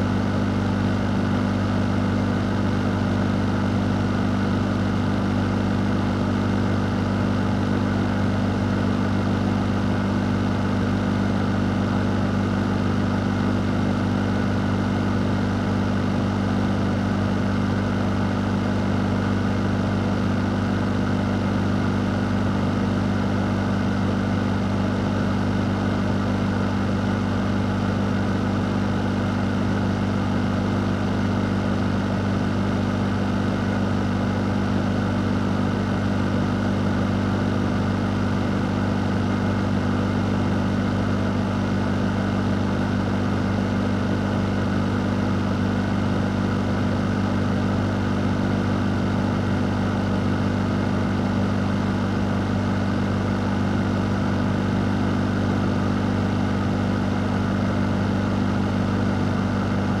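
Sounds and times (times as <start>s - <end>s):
electric fan running: 0.0s - 60.0s.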